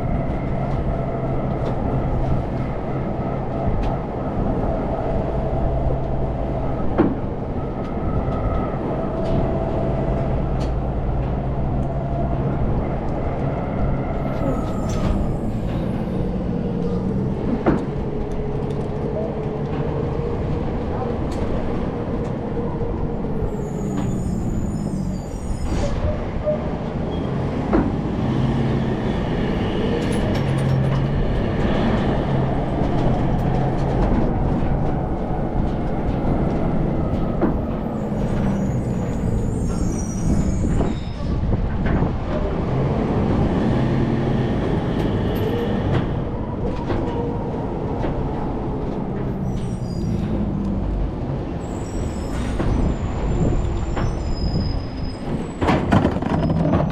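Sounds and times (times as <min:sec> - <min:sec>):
garbage truck diesel engine: 0:08.8 - 0:56.9.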